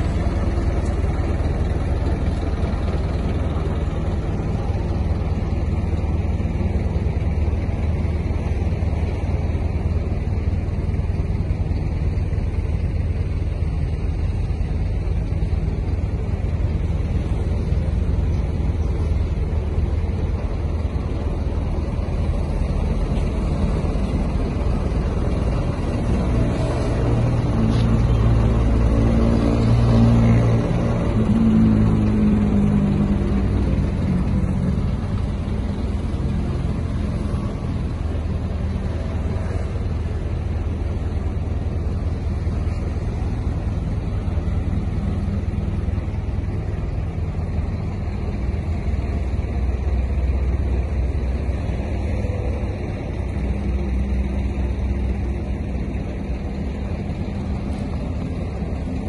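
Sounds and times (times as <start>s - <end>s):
heavy machinery engine revving: 0.0s - 59.0s.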